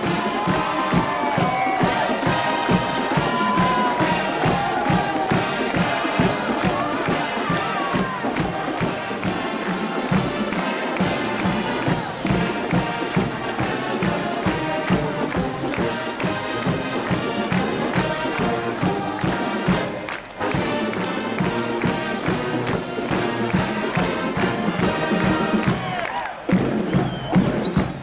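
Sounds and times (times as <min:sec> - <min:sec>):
brass marching band playing: 0:00.0 - 0:28.0
steady drumbeat: 0:00.0 - 0:28.0.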